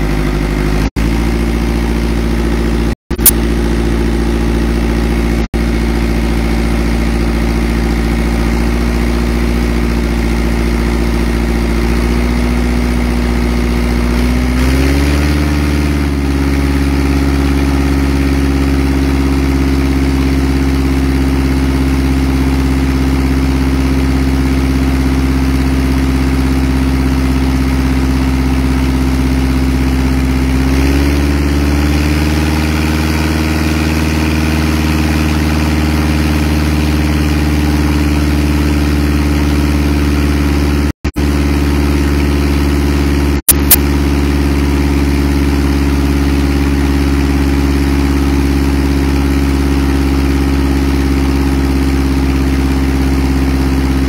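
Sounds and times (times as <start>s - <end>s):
engine-driven pump running: 0.0s - 54.0s.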